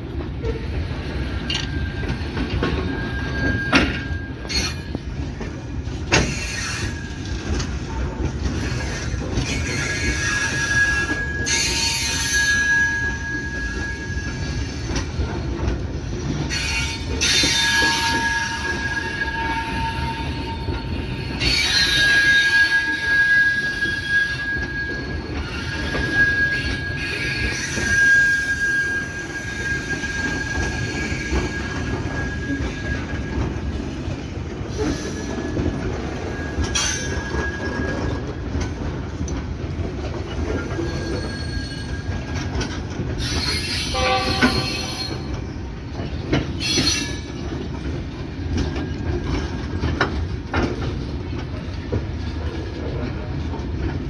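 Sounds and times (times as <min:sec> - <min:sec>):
steel wheels rumbling on rails: 0:00.0 - 0:54.0
wheel squeal: 0:00.5 - 0:15.5, 0:16.2 - 0:39.3, 0:40.1 - 0:52.7.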